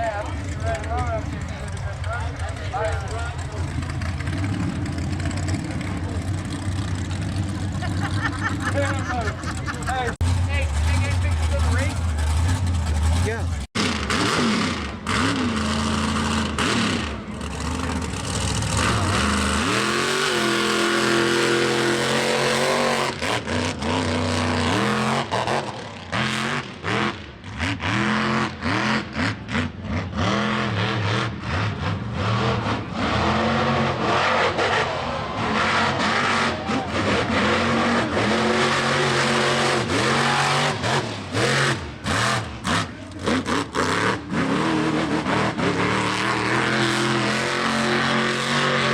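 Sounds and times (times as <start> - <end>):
truck engine revving hard: 0.0 - 48.9.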